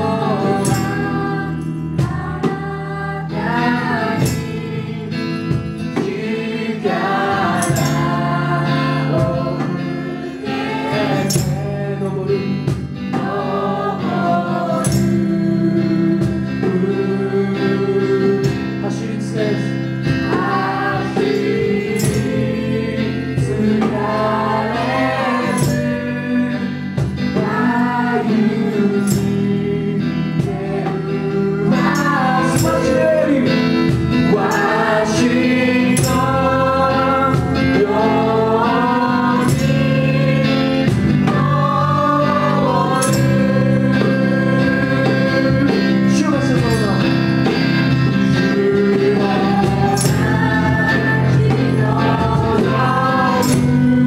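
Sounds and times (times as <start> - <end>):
children singing: 0.0 - 12.6, 13.2 - 47.0, 47.6 - 54.0
instrumental accompaniment: 0.0 - 54.0.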